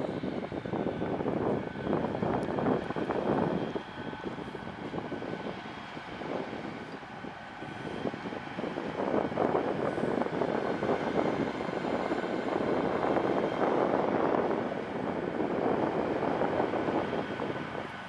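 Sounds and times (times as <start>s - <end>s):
faint high whine: 0.0s - 18.0s
train diesel engine drone: 0.0s - 18.0s
train wheel noise: 0.0s - 18.0s.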